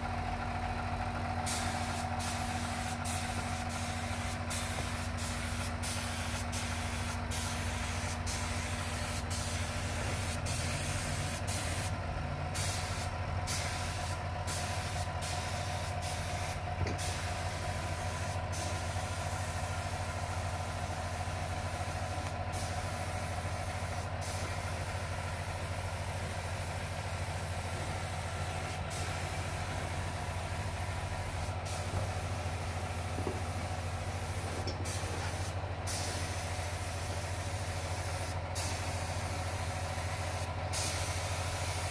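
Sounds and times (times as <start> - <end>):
compressed air hissing from nozzle: 1.4 - 41.9.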